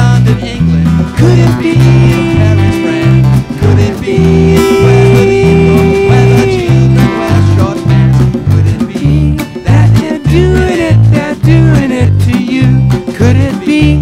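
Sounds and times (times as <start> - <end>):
accordion: 0.0 - 14.0
acoustic guitar: 0.0 - 14.0
drums: 0.0 - 14.0
men singing: 0.0 - 14.0.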